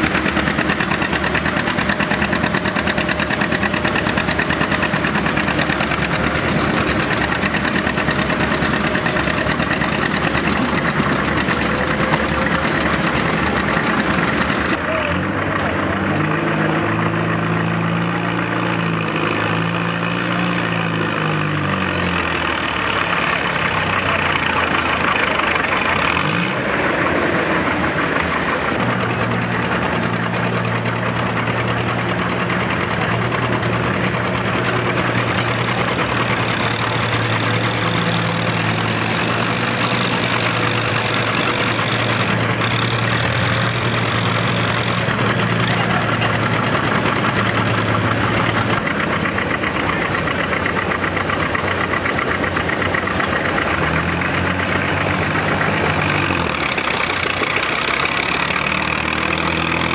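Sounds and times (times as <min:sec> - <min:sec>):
tractor engine running steadily: 0:00.0 - 0:59.9
two-cylinder tractor engine working hard: 0:00.0 - 0:59.9.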